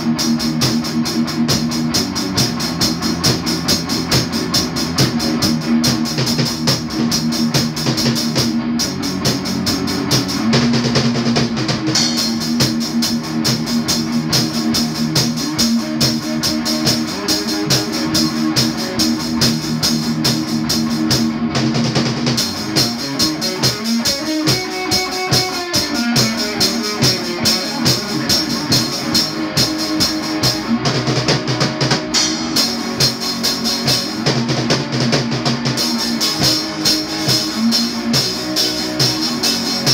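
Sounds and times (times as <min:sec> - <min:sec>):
drum kit rock beat: 0:00.0 - 0:39.9
electric guitar: 0:00.0 - 0:39.9.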